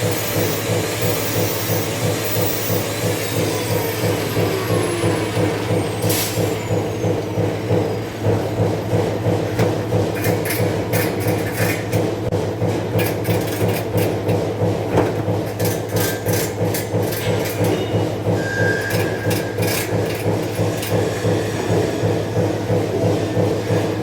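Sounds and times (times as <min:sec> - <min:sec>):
electrical machine hum pulsing: 0:00.0 - 0:24.0.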